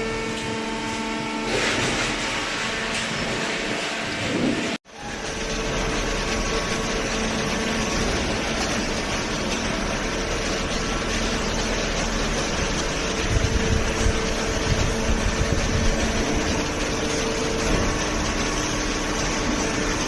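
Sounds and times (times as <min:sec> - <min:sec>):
hydraulic pump motor humming: 0:00.0 - 0:20.0.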